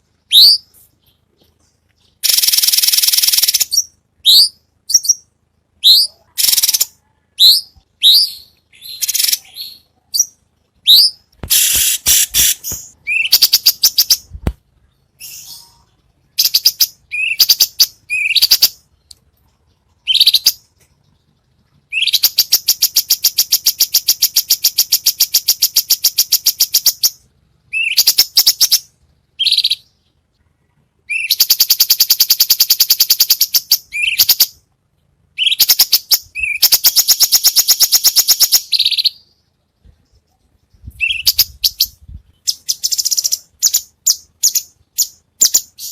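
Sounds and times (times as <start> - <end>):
songbird chirps and trills: 0.0 - 45.9.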